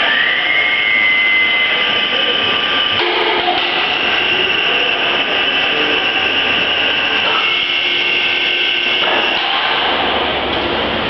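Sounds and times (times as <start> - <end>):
steady machine tones: 0.0 - 11.0
workshop machinery whirring: 0.0 - 11.0.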